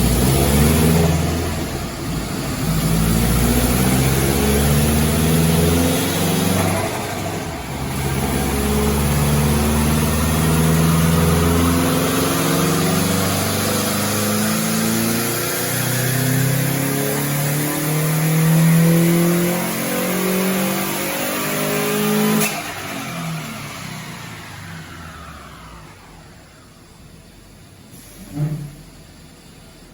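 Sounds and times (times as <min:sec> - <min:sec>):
turbocharged car engine under load: 0:00.0 - 0:29.9.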